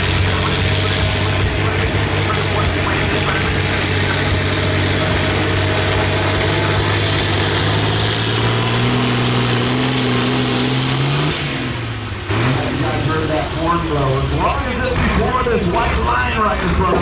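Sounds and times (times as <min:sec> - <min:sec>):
diesel engine under load: 0:00.0 - 0:17.0
turbo whine: 0:00.0 - 0:17.0.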